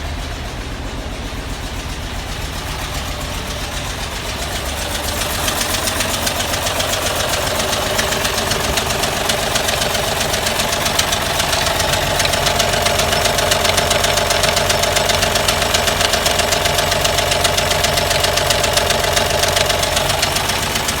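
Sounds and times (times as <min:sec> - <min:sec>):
engine idling with ticking: 0:00.0 - 0:21.0.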